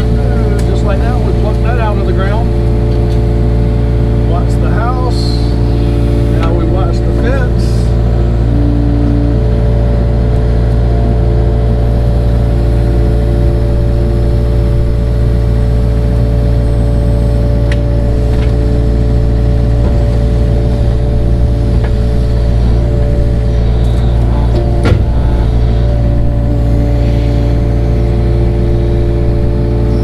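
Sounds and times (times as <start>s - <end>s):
earth-moving machine engine droning: 0.0s - 30.0s.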